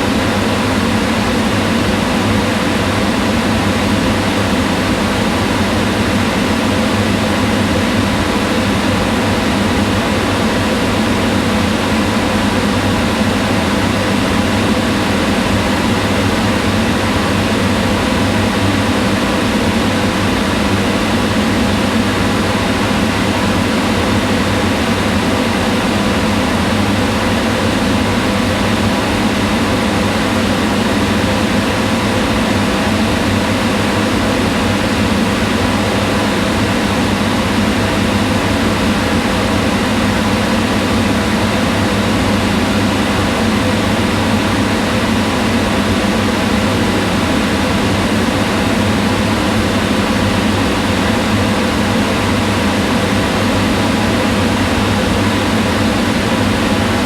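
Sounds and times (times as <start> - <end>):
exhaust fan running: 0.0 - 57.0.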